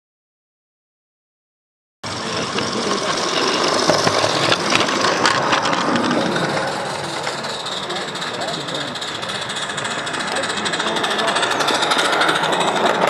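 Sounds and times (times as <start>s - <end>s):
model locomotive hissing steam: 2.1s - 13.0s
scattered clicks: 2.4s - 13.0s.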